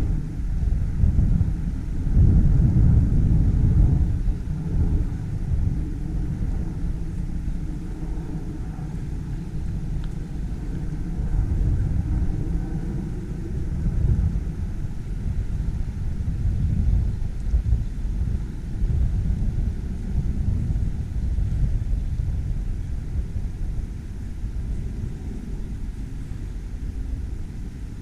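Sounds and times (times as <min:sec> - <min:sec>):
low fluctuating rumble: 0:00.0 - 0:28.0.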